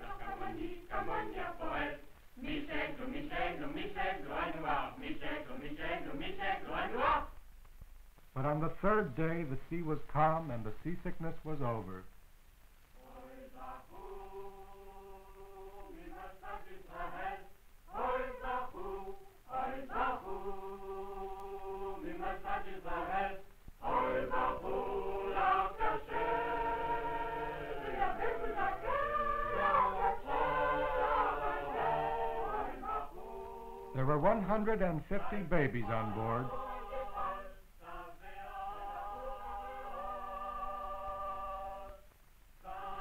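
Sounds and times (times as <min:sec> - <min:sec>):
choir singing held notes: 0:00.0 - 0:07.4, 0:13.0 - 0:43.0.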